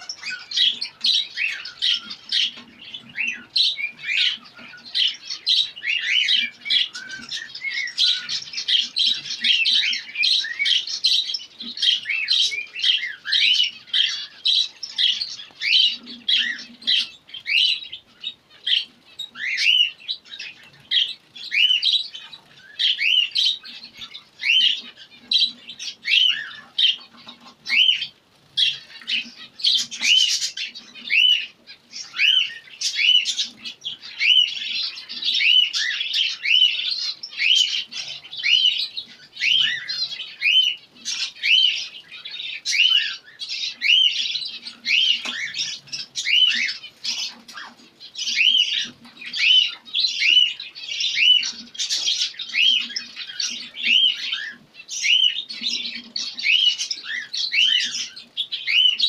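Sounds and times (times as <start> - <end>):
finches chirping: 0.0 - 59.0.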